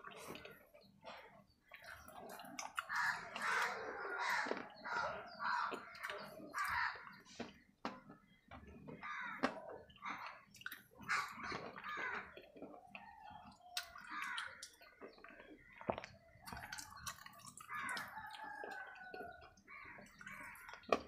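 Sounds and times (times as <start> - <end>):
chewing crunching: 0.0 - 21.0.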